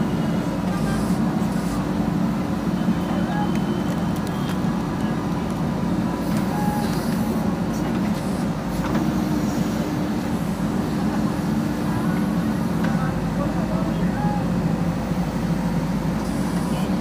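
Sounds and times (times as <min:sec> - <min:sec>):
diesel engine under hydraulic load: 0:00.0 - 0:17.0.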